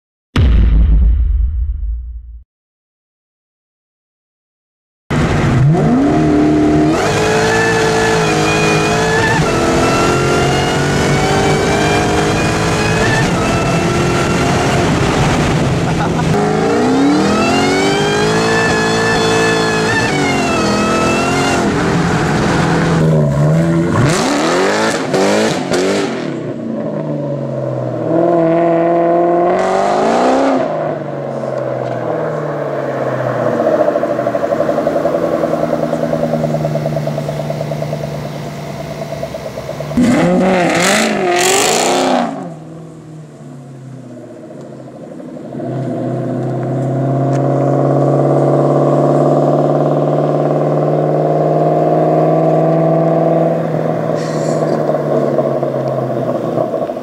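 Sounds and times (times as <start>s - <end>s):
car engine accelerating hard: 5.1s - 57.0s.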